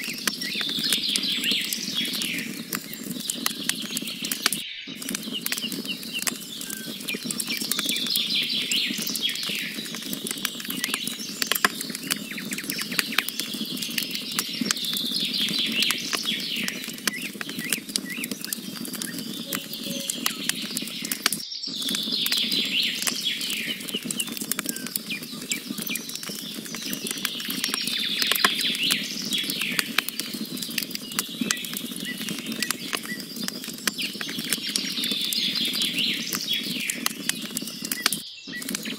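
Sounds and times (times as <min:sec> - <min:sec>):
birds singing: 0:00.0 - 0:38.9
burning logs snapping: 0:00.0 - 0:38.9
campfire crackling: 0:00.0 - 0:38.9.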